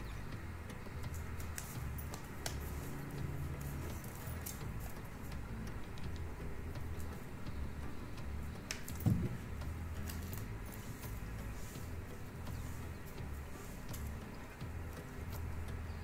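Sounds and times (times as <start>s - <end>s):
low steady hum: 0.0s - 16.0s
light clicks and taps of handling: 0.3s - 16.0s.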